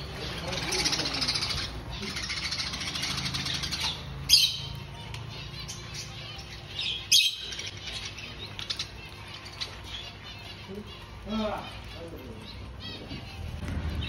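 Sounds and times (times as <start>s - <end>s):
budgerigars chirping and chattering: 0.0s - 14.0s
loud sharp bird calls: 0.0s - 14.0s.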